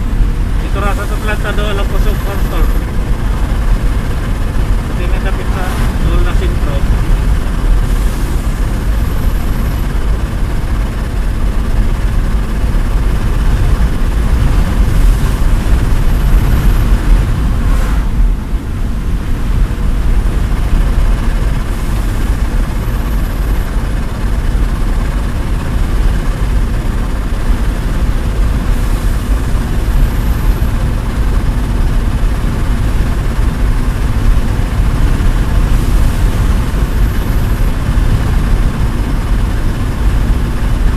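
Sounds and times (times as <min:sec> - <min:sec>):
heavy engine rumbling: 0:00.0 - 0:40.9.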